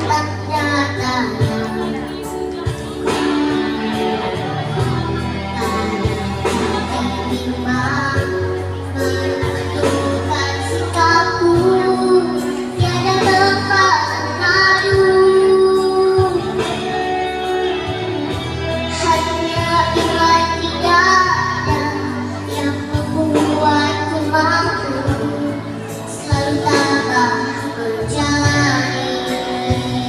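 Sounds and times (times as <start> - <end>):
child singing: 0.0 - 4.0, 4.6 - 17.8, 18.6 - 30.0
musical accompaniment: 0.0 - 30.0.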